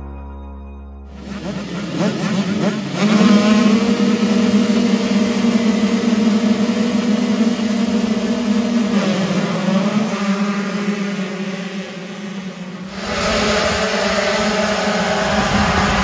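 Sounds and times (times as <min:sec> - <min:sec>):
motocross bikes revving: 0:01.1 - 0:16.0.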